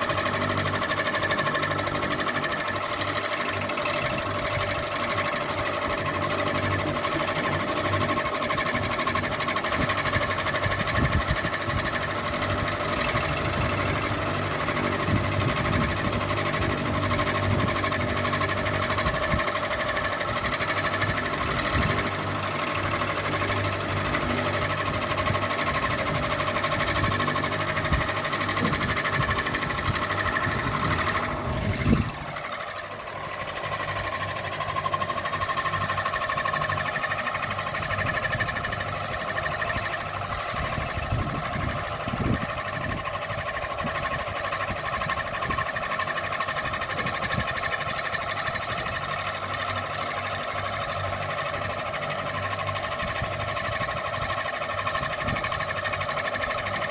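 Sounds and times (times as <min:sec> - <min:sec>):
ceiling fan motor whine: 0:00.0 - 0:56.9.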